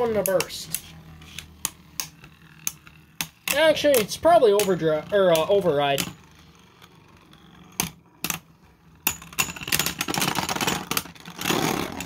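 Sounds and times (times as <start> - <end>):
spinning tops clicking: 0.0 - 11.2
spinning top rattling: 0.0 - 12.0.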